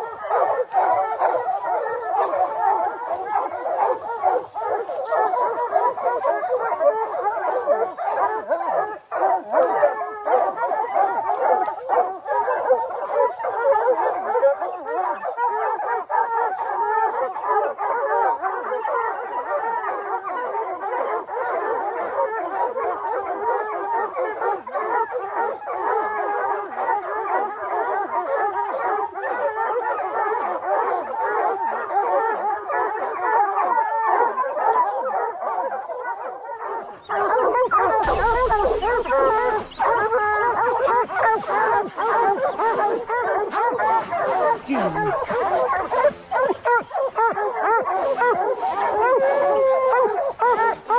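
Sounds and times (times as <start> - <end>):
hounds baying and barking: 0.0 - 50.9.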